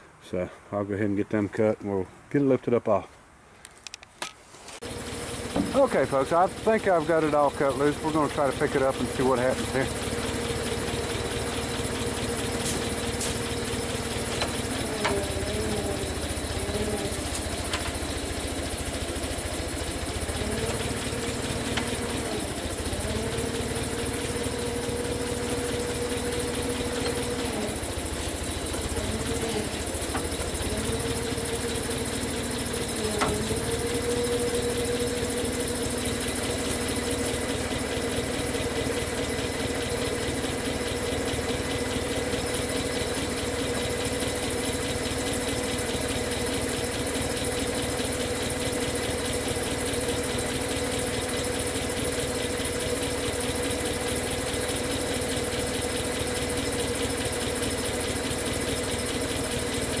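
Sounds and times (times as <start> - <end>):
machine engine running steadily: 4.6 - 60.0.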